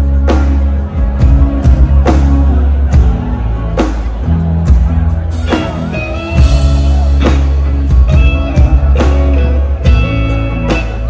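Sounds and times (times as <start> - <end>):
bass guitar: 0.0 - 11.0
drum kit heavy strikes: 0.0 - 11.0
electric guitar lead: 0.0 - 11.0.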